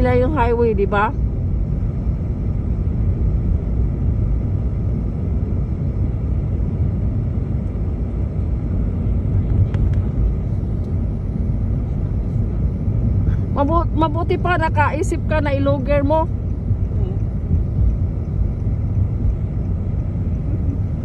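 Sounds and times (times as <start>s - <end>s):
car driving on snow: 0.0s - 21.0s.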